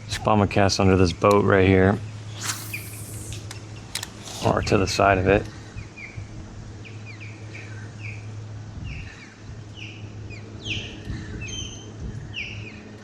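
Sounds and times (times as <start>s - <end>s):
steady low hum: 0.0s - 13.0s
small birds chirping: 2.0s - 13.0s.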